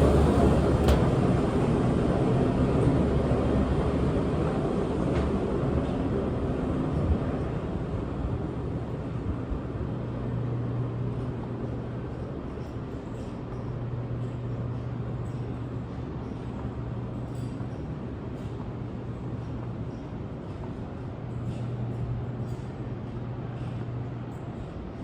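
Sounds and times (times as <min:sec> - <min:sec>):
tram rumbling along track: 0:00.0 - 0:25.0.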